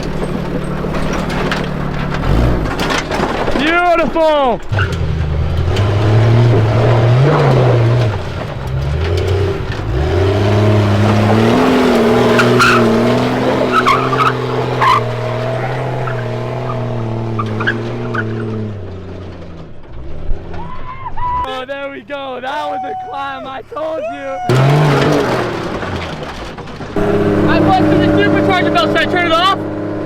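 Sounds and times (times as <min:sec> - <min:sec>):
engine running hard under load: 0:00.0 - 0:20.0, 0:24.5 - 0:30.0
tyres squeaking and knocking on rock: 0:00.0 - 0:21.5, 0:22.6 - 0:29.5.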